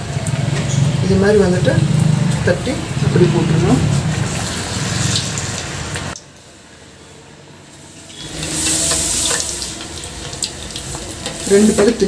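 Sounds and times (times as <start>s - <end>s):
food sizzling in hot oil: 0.0s - 6.2s, 7.7s - 12.0s.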